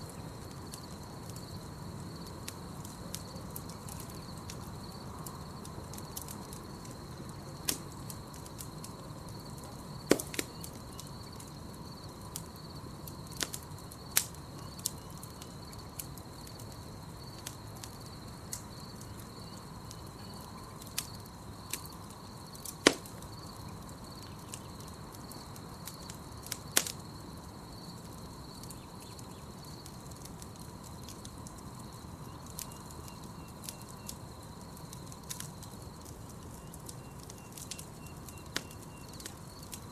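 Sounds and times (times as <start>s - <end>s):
campfire crackling and popping: 0.0s - 39.9s
night insects trilling: 0.0s - 39.9s.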